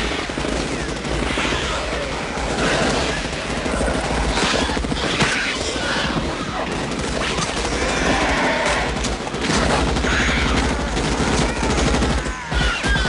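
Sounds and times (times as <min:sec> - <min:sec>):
rapid automatic rifle fire: 0:00.0 - 0:13.0.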